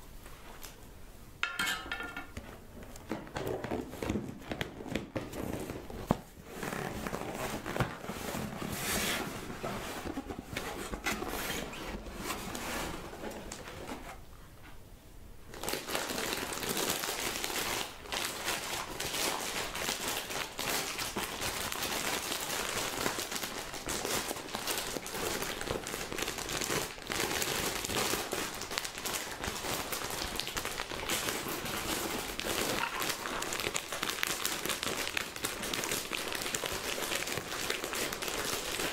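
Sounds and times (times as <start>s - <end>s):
packaging crinkling and rustling: 1.8s - 14.2s, 15.5s - 38.9s.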